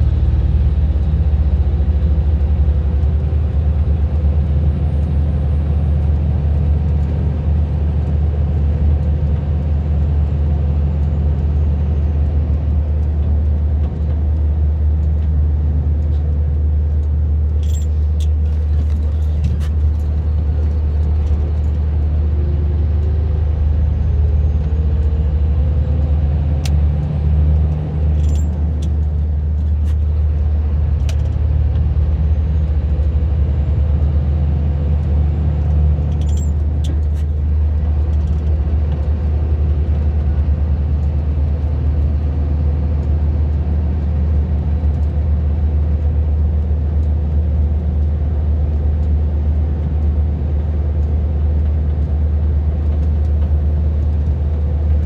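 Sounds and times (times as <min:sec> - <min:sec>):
vehicle engine and tyre drone: 0:00.0 - 0:55.0.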